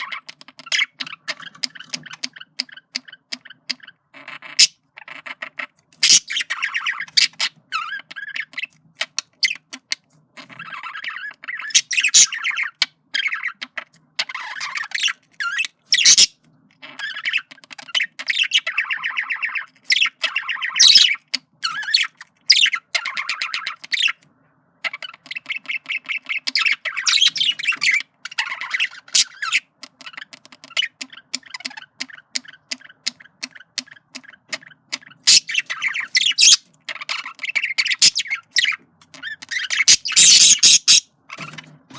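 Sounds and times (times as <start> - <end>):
budgerigar warbling and chirping: 0.0 - 24.2, 24.8 - 41.7.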